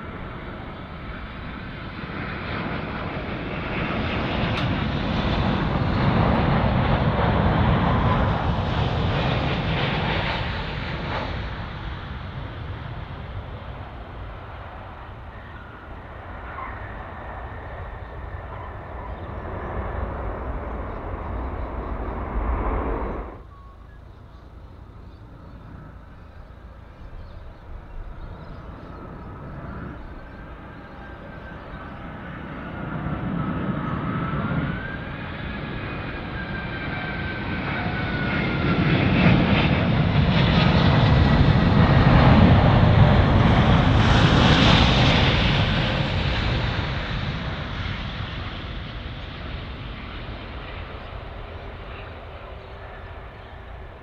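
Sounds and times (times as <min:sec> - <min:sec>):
jet engine noise: 0:00.0 - 0:54.0
jet engine whine: 0:00.0 - 0:54.0.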